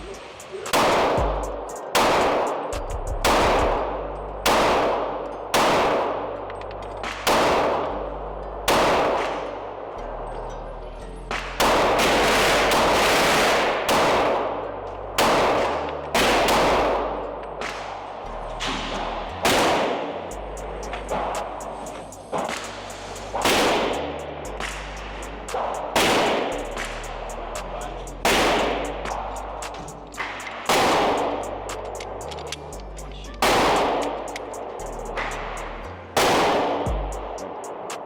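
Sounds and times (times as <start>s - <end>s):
bass line background music: 0.0s - 37.6s
pistol shots echoing: 0.1s - 9.9s, 11.3s - 32.5s, 33.3s - 38.0s.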